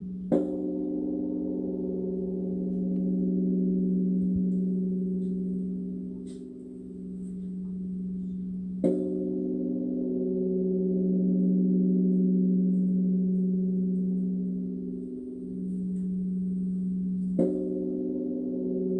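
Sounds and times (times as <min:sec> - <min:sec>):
large bronze bell ringing: 0:00.0 - 0:18.9.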